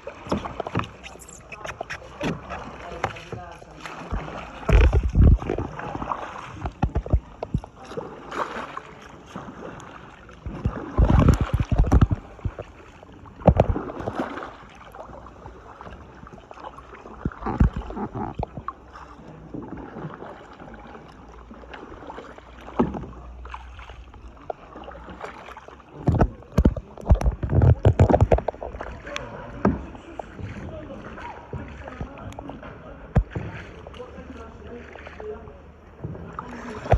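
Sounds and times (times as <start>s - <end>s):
paddle knocks: 0.0s - 35.2s, 35.9s - 36.9s
kayak paddle splashing water: 0.0s - 36.9s.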